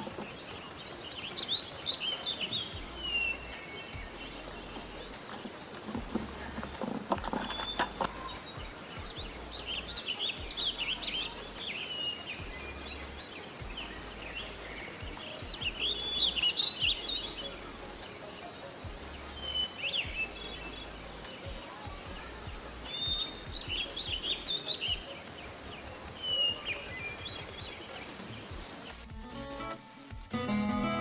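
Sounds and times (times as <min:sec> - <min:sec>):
small birds twittering: 0:00.0 - 0:31.0.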